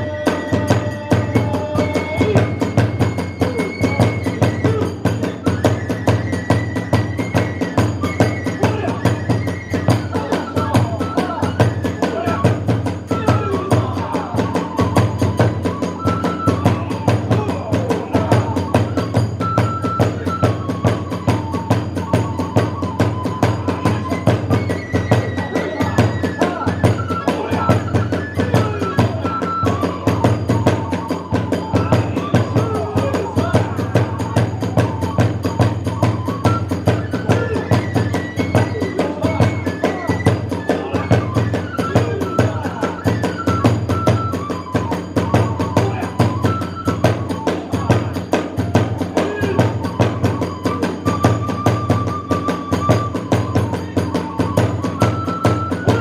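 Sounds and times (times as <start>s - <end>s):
drums beating fast rhythm: 0.0s - 56.0s
high bamboo flute: 0.0s - 56.0s.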